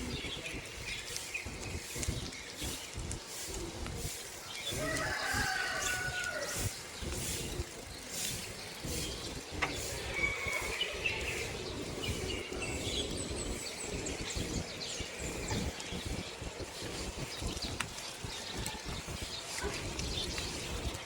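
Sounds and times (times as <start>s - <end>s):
small birds chirping: 0.0s - 21.0s
wind buffeting microphone: 0.0s - 21.0s.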